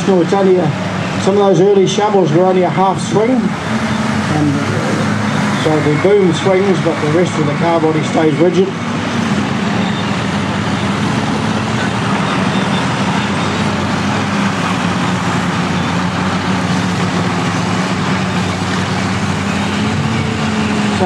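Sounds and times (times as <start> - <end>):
bulldozer engines running: 0.0 - 21.0.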